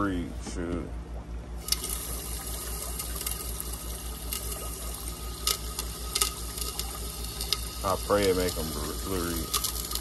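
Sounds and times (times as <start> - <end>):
water gushing into aquarium: 1.6 - 10.0.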